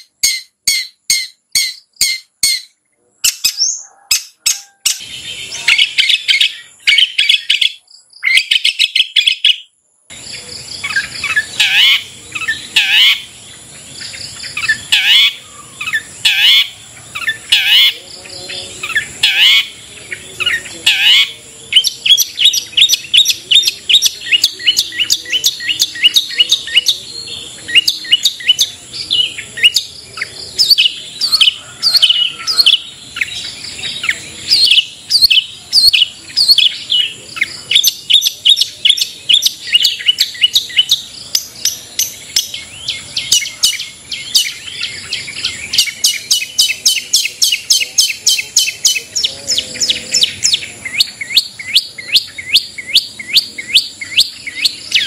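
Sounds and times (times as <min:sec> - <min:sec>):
bird singing sharp high chirps: 0:00.0 - 0:55.0.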